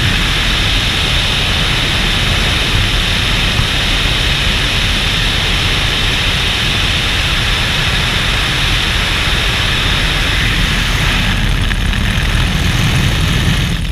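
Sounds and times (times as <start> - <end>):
helicopter rotor and engine: 0.0 - 13.9
wind rushing over camera: 0.0 - 13.9.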